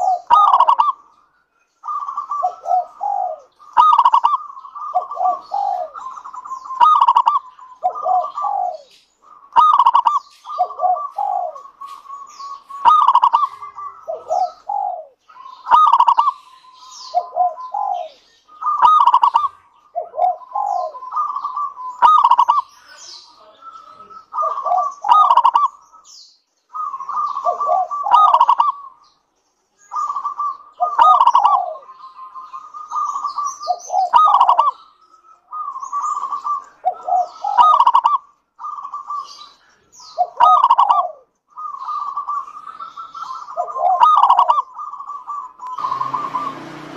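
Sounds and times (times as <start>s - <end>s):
dove cooing: 0.0s - 1.1s, 1.8s - 29.1s, 29.8s - 46.9s.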